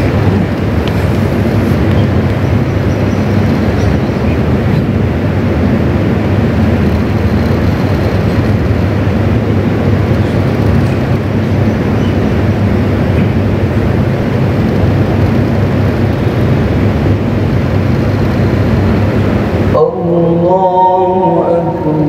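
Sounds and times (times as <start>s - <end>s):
low rumbling room noise: 0.0s - 22.0s.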